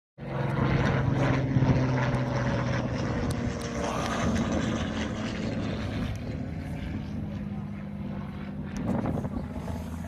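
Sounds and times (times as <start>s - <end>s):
engine drone: 0.2s - 10.0s
low rumble: 0.2s - 10.0s.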